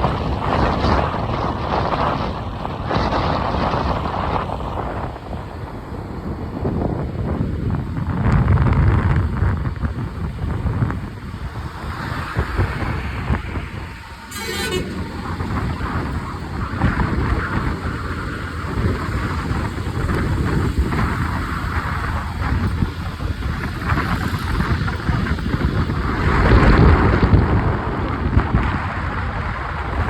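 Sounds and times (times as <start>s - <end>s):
motorbike engine and road noise: 0.0s - 30.0s
wind on microphone: 0.0s - 30.0s.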